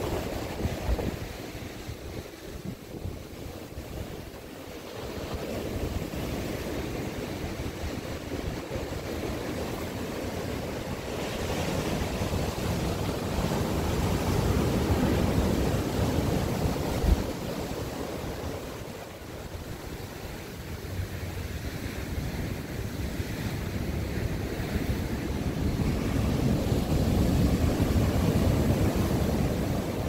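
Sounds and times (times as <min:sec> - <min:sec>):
ocean surf breaking: 0:00.0 - 0:30.0
wind rumble on microphone: 0:00.0 - 0:30.0.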